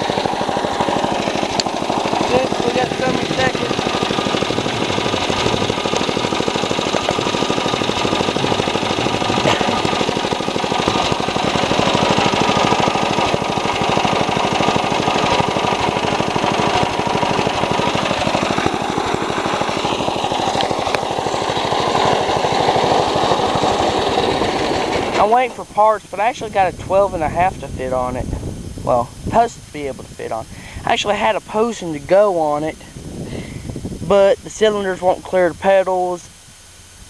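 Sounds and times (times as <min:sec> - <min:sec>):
lawnmower engine running: 0:00.0 - 0:37.0.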